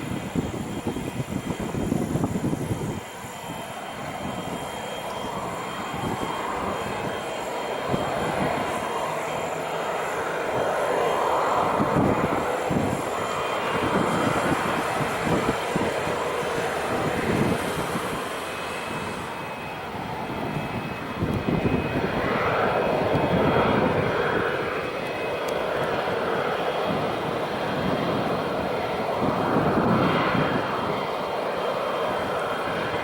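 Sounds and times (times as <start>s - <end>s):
jet engines rushing: 0.0s - 33.0s
wind buffeting microphone: 0.0s - 33.0s.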